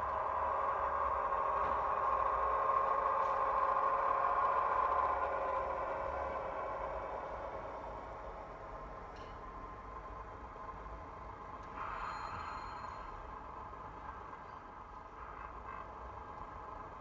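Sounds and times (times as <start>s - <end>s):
diesel railcar engine through small speaker: 0.0s - 17.0s.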